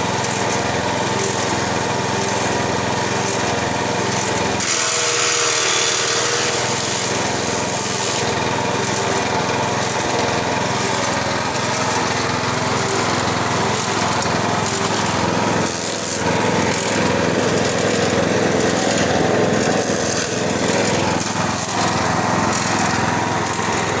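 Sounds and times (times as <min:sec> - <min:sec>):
grass chopper machine running: 0:00.0 - 0:24.0.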